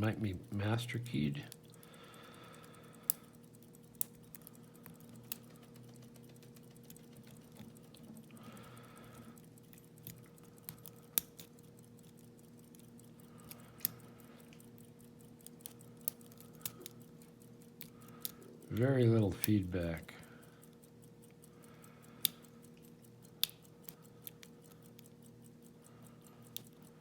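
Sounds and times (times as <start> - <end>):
lock-picking tools clicking: 0.0 - 27.0.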